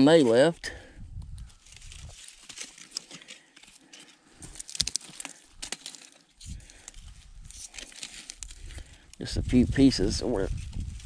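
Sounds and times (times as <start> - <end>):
dry wood crackling and snapping: 0.0 - 11.0.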